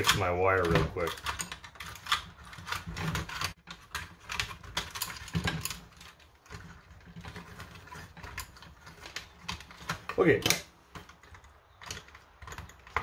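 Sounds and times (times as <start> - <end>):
plastic parts clicking and knocking: 0.0 - 13.0.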